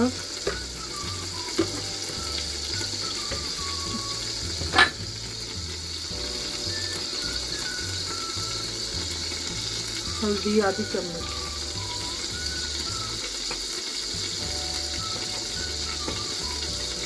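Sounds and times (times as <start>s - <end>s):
faint background music: 0.0s - 17.0s
oil sizzling in a pot: 0.0s - 17.0s.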